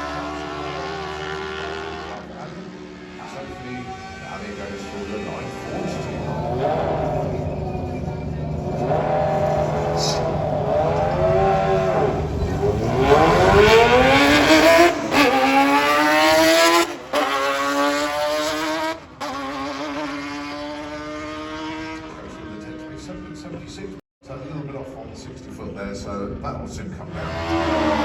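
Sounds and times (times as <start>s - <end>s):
motorcycle engines revving and accelerating: 0.0s - 24.0s, 25.9s - 28.0s.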